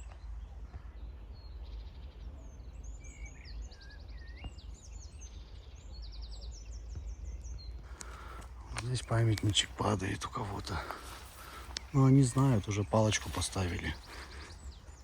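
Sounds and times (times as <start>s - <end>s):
small birds trilling: 0.0s - 15.0s.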